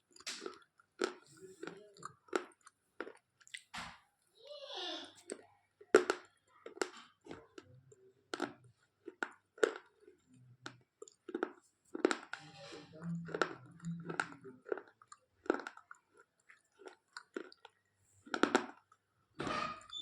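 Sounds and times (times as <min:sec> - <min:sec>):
crunchy chewing: 0:00.0 - 0:03.7, 0:05.2 - 0:19.1.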